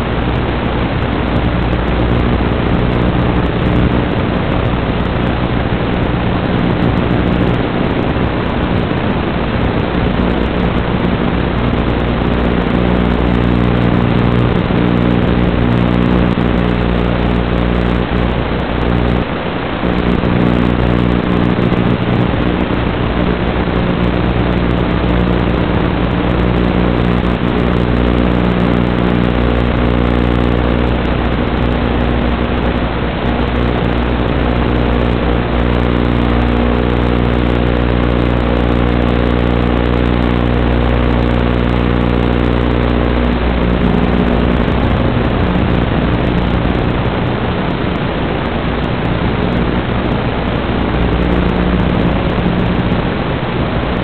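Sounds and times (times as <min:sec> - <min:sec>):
multi-tone hum: 0:00.0 - 0:54.0.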